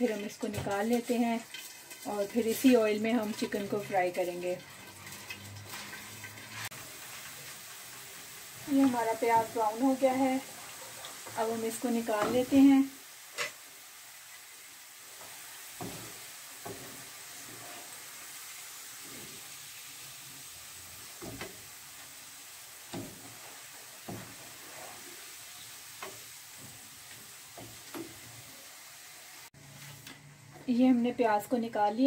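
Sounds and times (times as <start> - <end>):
wooden spatula scraping a pan: 0.0 - 13.6, 14.3 - 21.7, 22.8 - 28.7, 29.6 - 30.1
onions sizzling in hot oil: 0.0 - 32.0.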